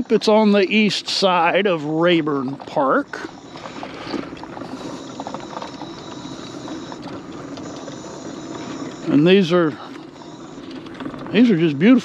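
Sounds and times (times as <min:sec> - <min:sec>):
vehicle running hum: 0:00.0 - 0:12.0.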